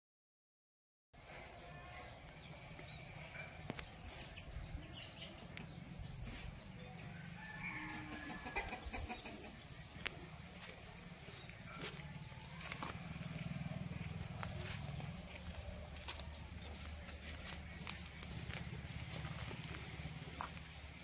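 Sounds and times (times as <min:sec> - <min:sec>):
birds chirping: 0:01.2 - 0:21.0.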